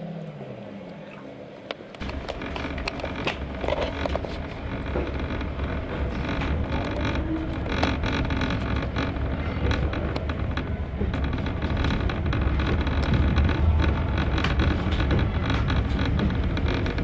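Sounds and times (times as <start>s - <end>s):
train carriage low rumble: 1.9s - 17.0s
wheel clicks and knocks: 2.0s - 17.0s.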